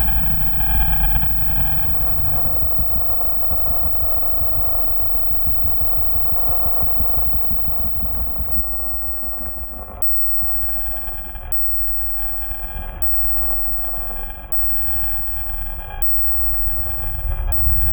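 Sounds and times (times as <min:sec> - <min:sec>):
faint steady drone: 0:00.0 - 0:17.9
heavy low rumble: 0:00.0 - 0:17.9.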